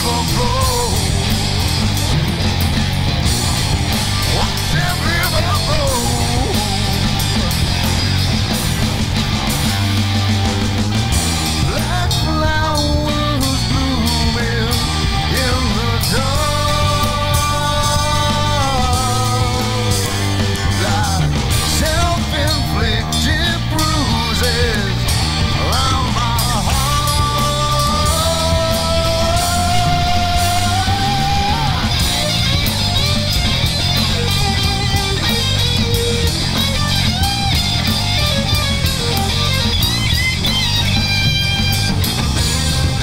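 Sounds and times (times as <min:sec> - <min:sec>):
bass: 0:00.0 - 0:43.0
drums: 0:00.0 - 0:43.0
lead electric guitar: 0:00.0 - 0:43.0.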